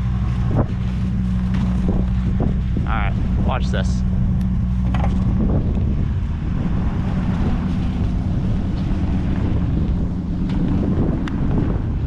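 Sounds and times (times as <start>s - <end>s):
truck engine running: 0.0s - 12.0s
wind on microphone: 0.0s - 12.0s.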